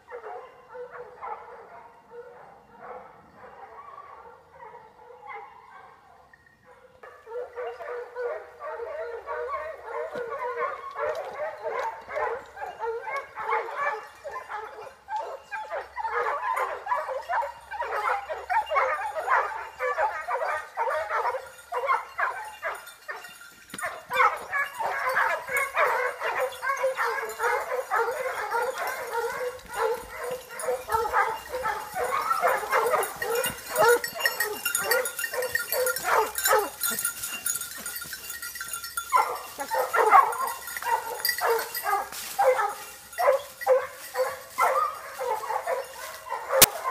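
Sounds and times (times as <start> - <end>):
hounds baying and yelping: 0.0 - 46.9.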